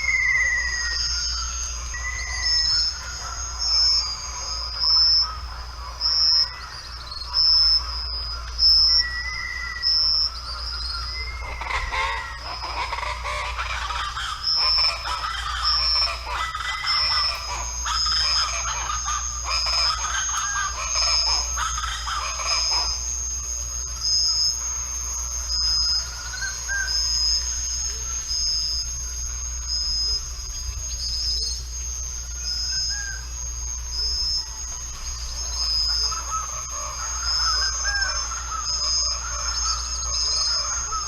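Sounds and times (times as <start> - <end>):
bird calls chatter: 0.0 - 41.0
steady high whine: 0.0 - 41.0.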